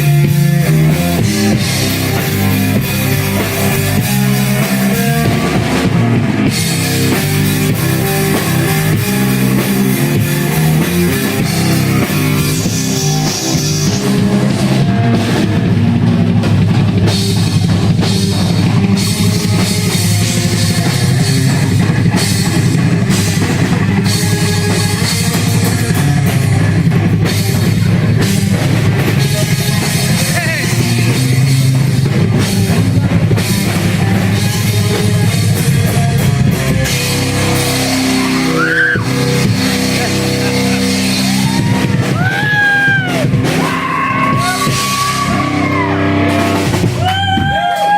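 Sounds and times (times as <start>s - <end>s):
bass guitar: 0.0s - 47.9s
distorted guitar: 0.0s - 47.9s
drum kit: 0.0s - 47.9s.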